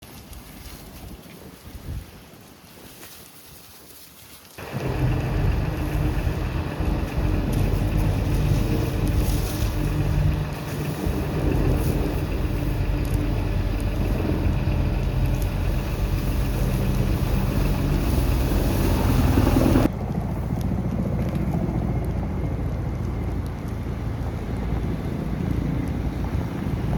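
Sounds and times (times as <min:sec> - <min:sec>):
wind noise on microphone: 0:00.0 - 0:04.0, 0:04.6 - 0:26.9
engine running: 0:04.6 - 0:26.9.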